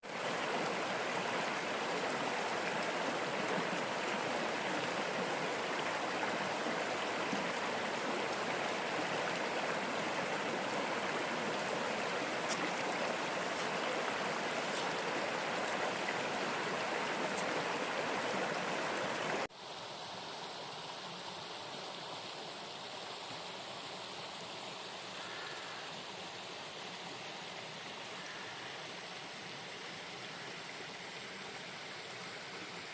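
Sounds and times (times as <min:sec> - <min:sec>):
river water rushing: 0:00.0 - 0:32.9.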